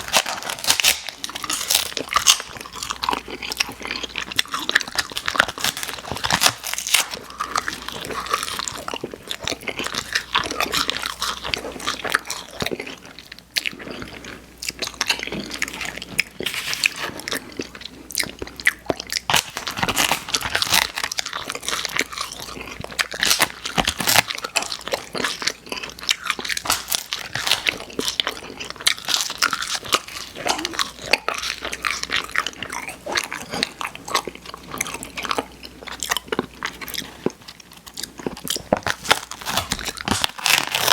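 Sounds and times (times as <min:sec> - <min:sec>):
crunchy biting and chewing: 0:00.0 - 0:40.9.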